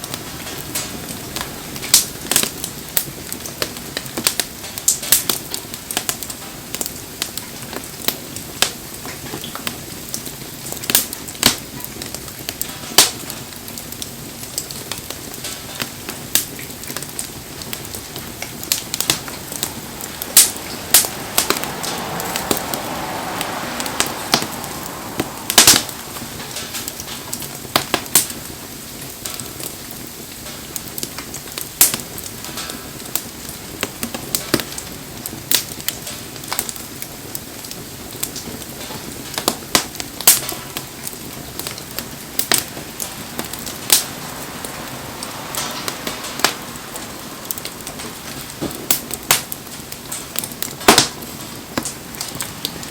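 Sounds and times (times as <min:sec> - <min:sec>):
bonfire crackling and popping: 0:00.0 - 0:52.9
rain hissing: 0:00.0 - 0:52.9.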